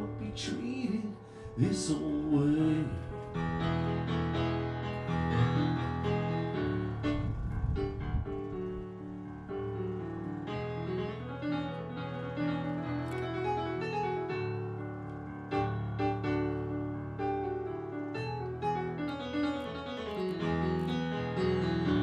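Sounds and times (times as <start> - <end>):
electric keyboard playing piano: 0.0 - 22.0.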